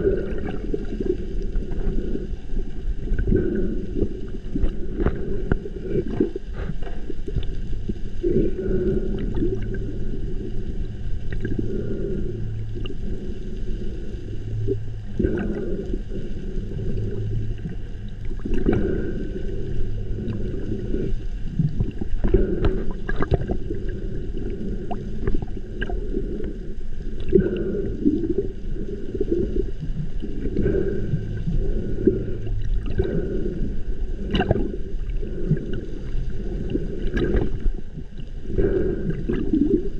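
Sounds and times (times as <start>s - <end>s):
low hum: 0.0s - 39.9s
muffled underwater gurgling rush: 0.0s - 39.9s.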